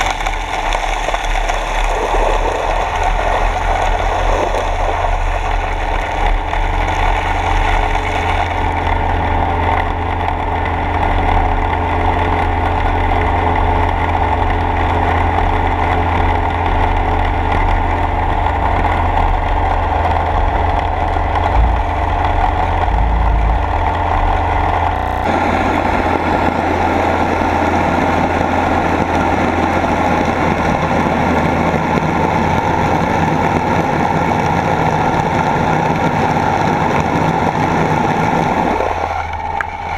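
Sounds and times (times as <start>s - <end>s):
underwater dredge mechanical hum: 0.0s - 39.9s
water and sediment rushing: 0.0s - 39.9s.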